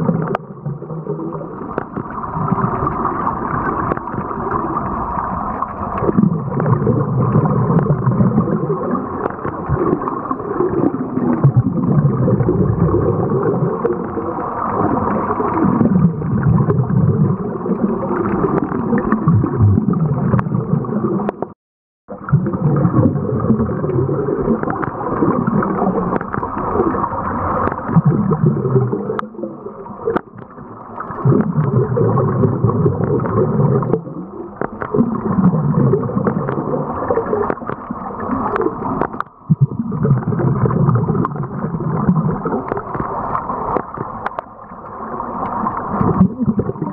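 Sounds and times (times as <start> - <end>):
bubbles gurgling underwater: 0.0 - 46.9.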